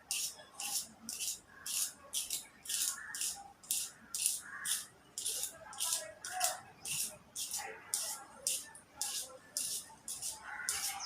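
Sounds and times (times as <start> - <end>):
pencil sharpener scraping: 0.1 - 11.0.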